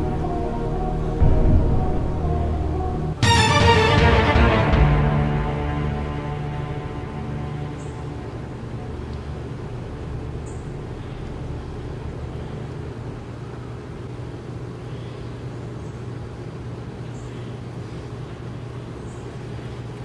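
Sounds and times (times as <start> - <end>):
low background hum and rumble: 0.0 - 3.3, 4.5 - 20.0.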